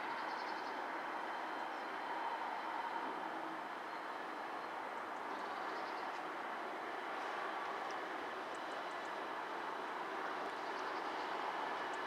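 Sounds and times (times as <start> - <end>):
freight train running on rails: 0.0 - 12.0.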